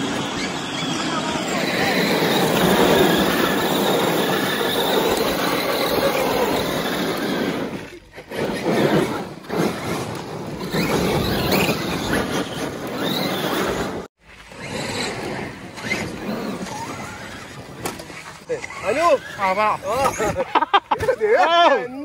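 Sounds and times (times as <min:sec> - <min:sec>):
electric motors whining: 0:00.0 - 0:20.7
tyres scrabbling and spitting gravel: 0:00.2 - 0:21.3.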